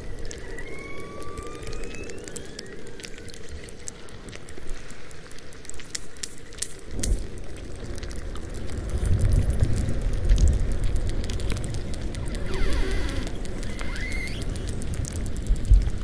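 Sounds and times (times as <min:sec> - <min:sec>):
whale echolocation clicks: 0:00.0 - 0:16.0.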